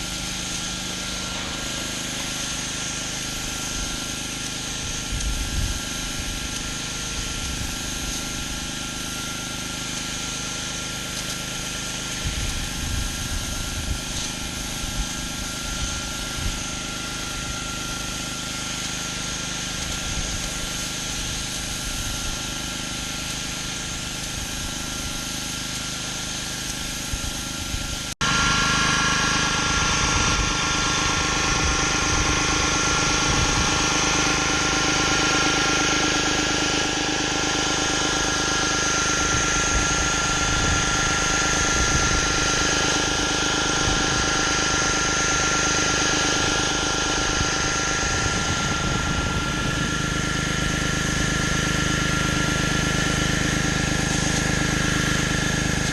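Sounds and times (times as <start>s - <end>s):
high whine: 0.0s - 25.2s, 26.0s - 55.9s
pressure washer engine running: 0.0s - 55.9s.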